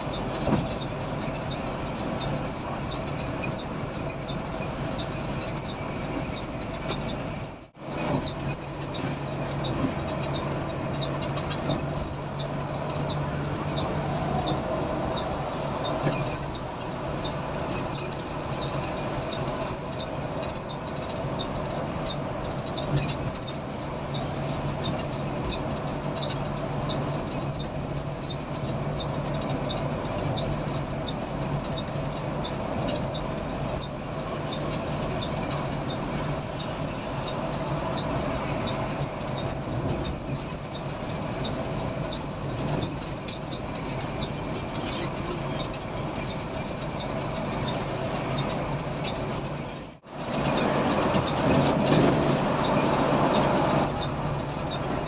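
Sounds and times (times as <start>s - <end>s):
coach engine and road noise: 0.0s - 55.0s.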